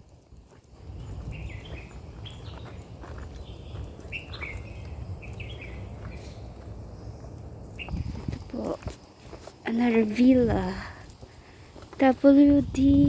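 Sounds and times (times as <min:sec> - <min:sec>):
steady low rumble: 0:00.0 - 0:13.0
birds chirping: 0:00.1 - 0:13.0.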